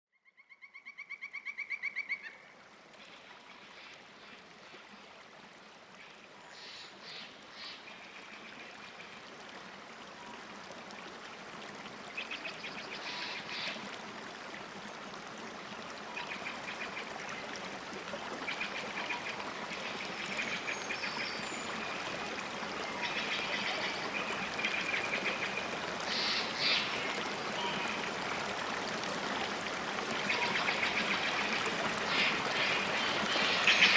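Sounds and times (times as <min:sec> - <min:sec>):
flowing water: 0:01.5 - 0:33.9.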